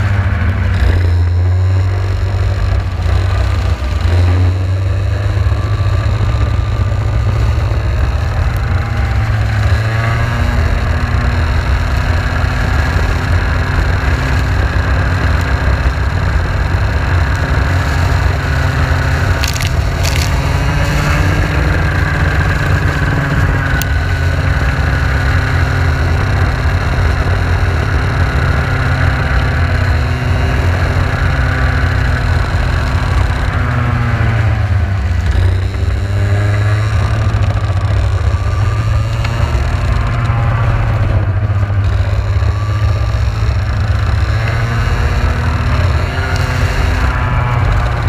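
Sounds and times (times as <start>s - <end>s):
racing car engine: 0.0s - 48.0s.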